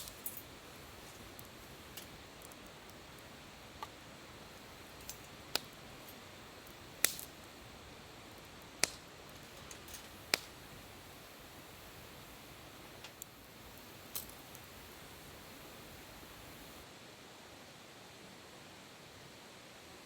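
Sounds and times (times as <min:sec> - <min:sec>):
sharp light clicks: 0:00.0 - 0:16.8
faint steady background noise: 0:00.0 - 0:20.0.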